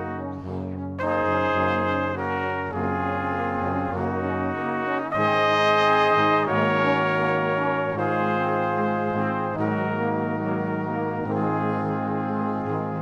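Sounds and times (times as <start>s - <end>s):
instrumental music with held chords: 0.0s - 13.0s.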